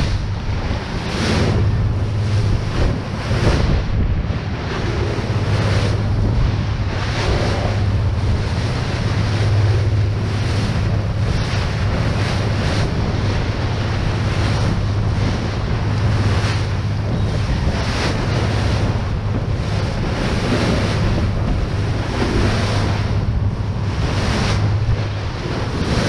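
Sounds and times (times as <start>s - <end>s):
boat engine humming: 0.0s - 26.0s
foaming wake rushing: 0.0s - 26.0s
wind buffeting microphone: 0.0s - 26.0s.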